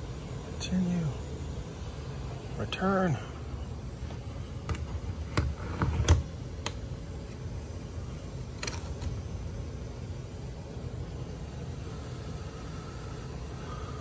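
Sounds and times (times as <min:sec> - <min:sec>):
air handler blower running: 0:00.0 - 0:14.0.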